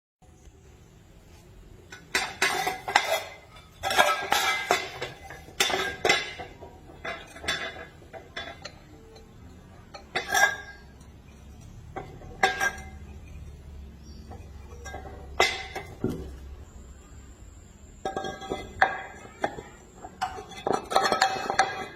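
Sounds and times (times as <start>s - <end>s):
metal pieces clanking: 1.9s - 13.6s, 14.2s - 16.5s, 18.0s - 21.9s.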